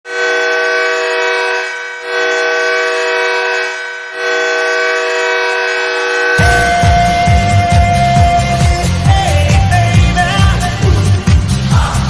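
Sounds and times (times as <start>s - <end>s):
goal horn blasts: 0.1s - 9.8s.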